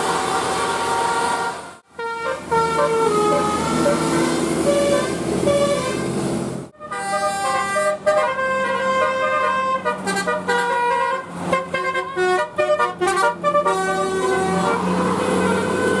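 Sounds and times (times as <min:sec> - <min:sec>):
musical bus horns playing a tune: 0:00.0 - 0:16.0.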